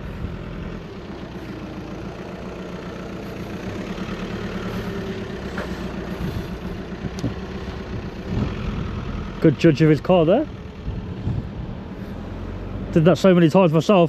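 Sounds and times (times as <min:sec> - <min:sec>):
car engine running at low speed: 0:00.0 - 0:14.0.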